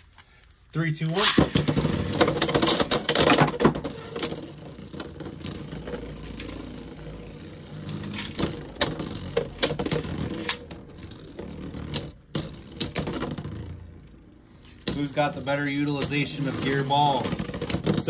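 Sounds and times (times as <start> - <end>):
spinning tops clattering: 1.1 - 18.0
spinning tops whirring: 1.1 - 18.0.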